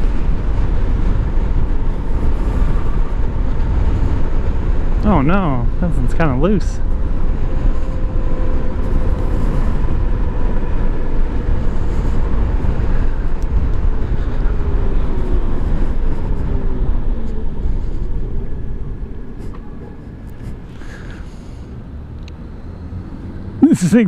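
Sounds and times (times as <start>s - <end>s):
heavy wind noise: 0.0s - 24.0s
road rumble: 0.0s - 24.0s.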